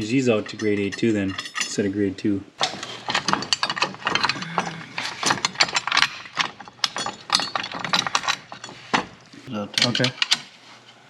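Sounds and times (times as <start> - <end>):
metal tool clatter: 0.0 - 1.9, 2.6 - 10.6.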